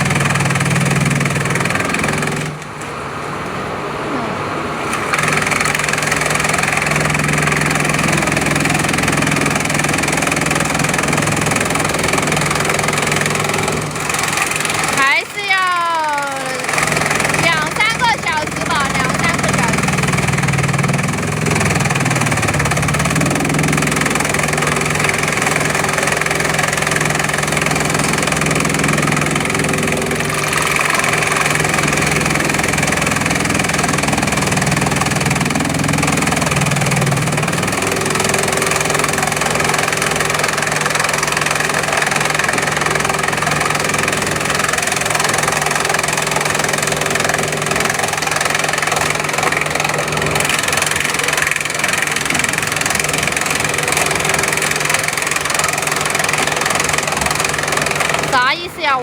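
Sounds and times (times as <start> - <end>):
chipping machine engine drone: 0.0 - 59.0.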